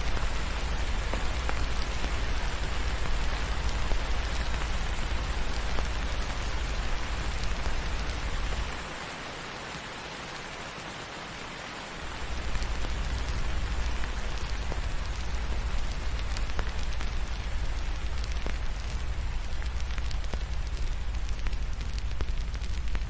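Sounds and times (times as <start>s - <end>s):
rain hiss: 0.0s - 23.0s
wood fire crackling: 0.0s - 23.0s.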